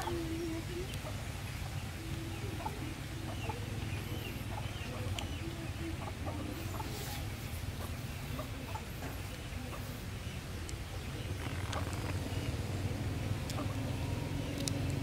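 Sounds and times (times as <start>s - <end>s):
chickens clucking: 0.0s - 15.0s
steady low hum: 0.0s - 15.0s.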